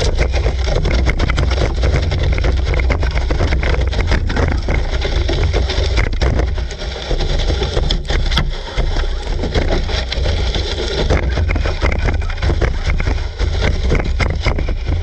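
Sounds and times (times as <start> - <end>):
rc car rumbling over grass: 0.0 - 15.0
scraping and rattling: 0.0 - 15.0.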